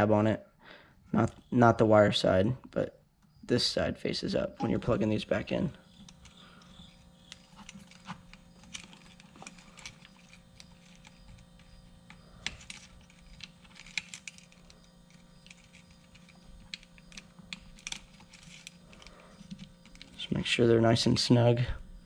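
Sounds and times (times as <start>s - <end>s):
faint steady hum: 0.0s - 22.0s
wires rustling: 3.4s - 21.3s.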